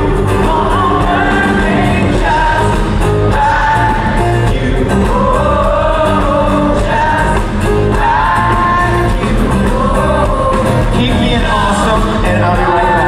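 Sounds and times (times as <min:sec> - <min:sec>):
women singing along: 0:00.0 - 0:11.8
man singing lead vocal: 0:00.0 - 0:13.0
pop-rock band playing: 0:00.0 - 0:13.0.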